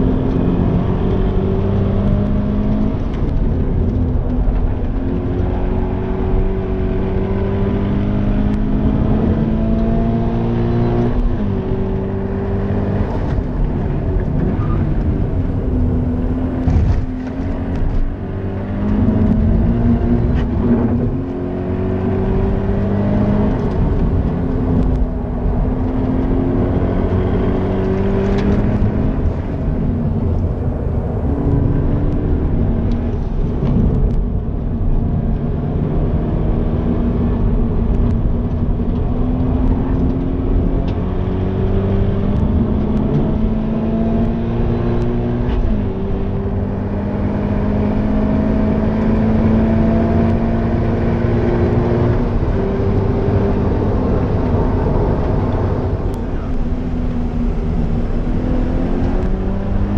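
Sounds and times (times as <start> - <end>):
car engine revving from inside: 0.0 - 59.9.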